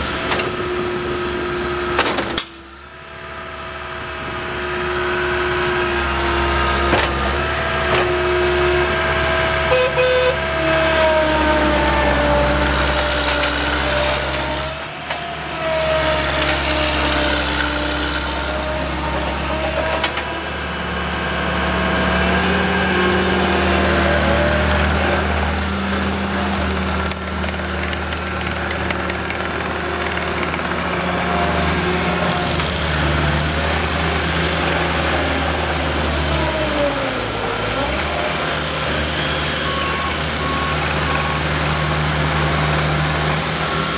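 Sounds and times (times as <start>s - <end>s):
loader diesel engine running: 0.0s - 43.9s.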